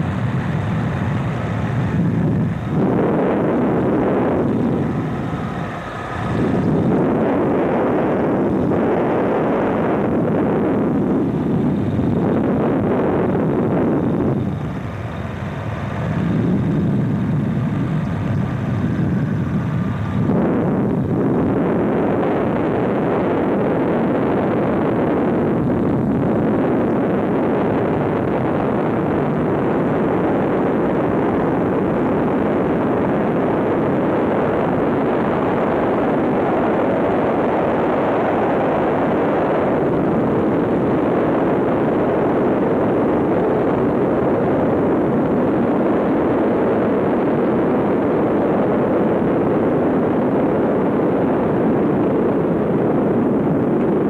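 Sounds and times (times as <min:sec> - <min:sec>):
biplane engine running: 0:00.0 - 0:54.0
wind rushing: 0:00.0 - 0:54.0.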